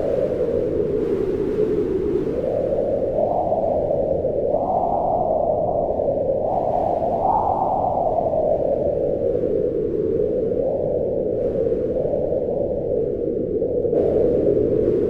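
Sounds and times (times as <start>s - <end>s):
strong wind howling: 0.0s - 15.0s.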